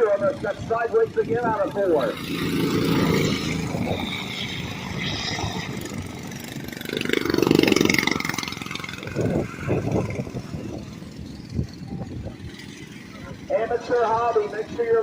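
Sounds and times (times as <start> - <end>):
small racing engines passing: 0.0 - 15.0.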